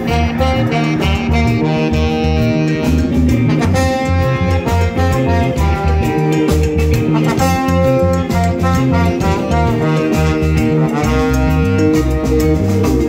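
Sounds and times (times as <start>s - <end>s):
reggae band playing: 0.0s - 13.0s
trombone and saxophone melody: 0.0s - 13.0s.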